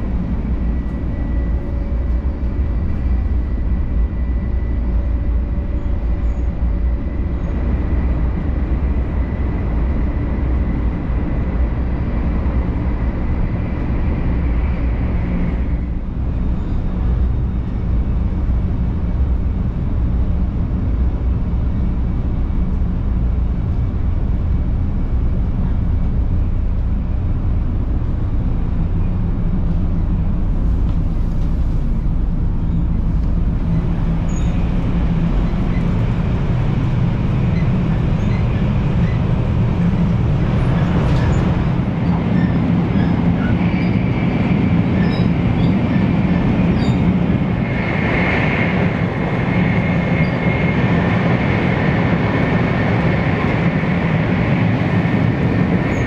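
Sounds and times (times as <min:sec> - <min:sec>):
train cabin rumble with hiss: 0:00.0 - 0:56.0.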